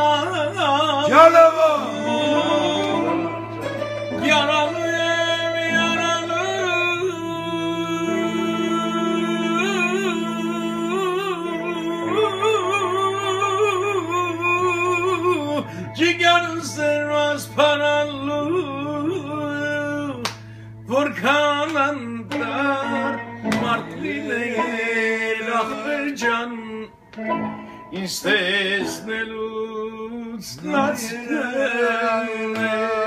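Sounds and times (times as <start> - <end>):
man singing: 0.0 - 27.0, 27.8 - 33.0
instrumental backing with low sustained notes: 0.0 - 33.0.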